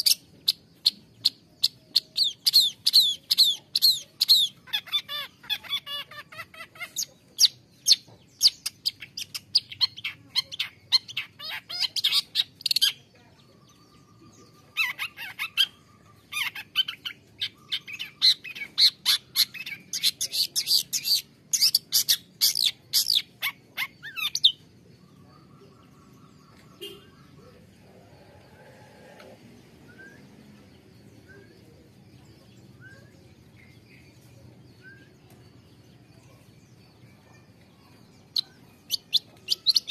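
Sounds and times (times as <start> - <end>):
bird chattering song: 0.0 - 39.9
distant bird chirps: 0.0 - 39.9.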